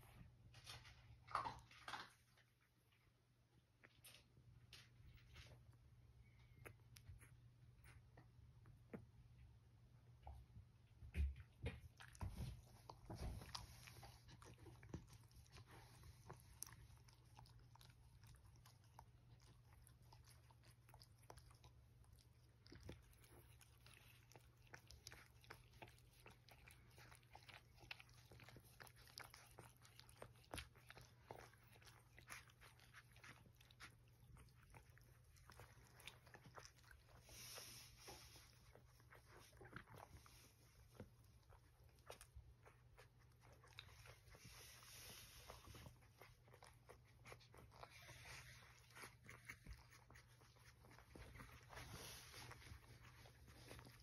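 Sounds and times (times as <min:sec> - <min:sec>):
low steady hum: 0:00.0 - 0:54.0
puppies snuffling and rustling: 0:00.0 - 0:54.0.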